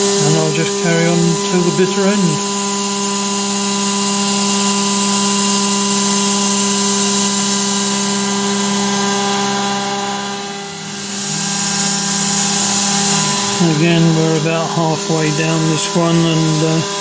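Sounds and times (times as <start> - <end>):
milling spindle whining: 0.0 - 17.0.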